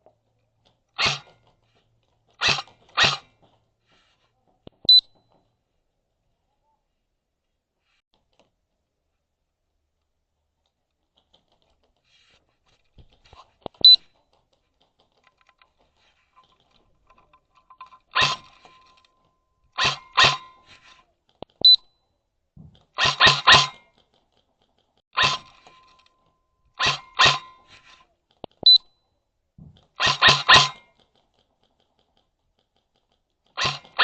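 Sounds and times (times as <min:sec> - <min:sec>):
faint clicks and knocks: 0:00.0 - 0:06.0, 0:07.4 - 0:21.8, 0:23.8 - 0:26.8, 0:27.6 - 0:30.2, 0:30.8 - 0:34.0.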